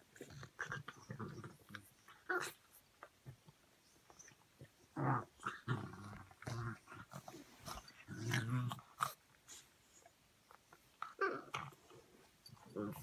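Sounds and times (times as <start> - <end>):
dog grunting and grumbling: 0.0 - 3.4, 4.6 - 9.6, 10.9 - 13.0.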